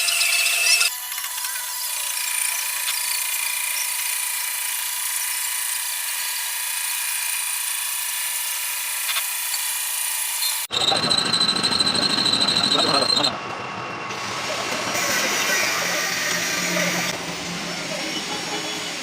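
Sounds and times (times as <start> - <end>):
metal lathe whining: 0.0 - 6.5, 9.0 - 19.0.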